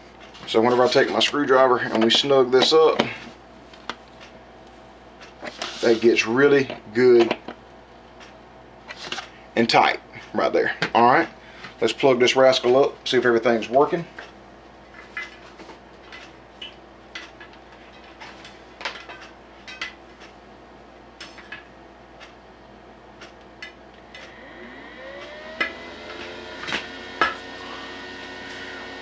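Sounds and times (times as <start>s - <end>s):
cooling fan whining: 0.0s - 29.0s.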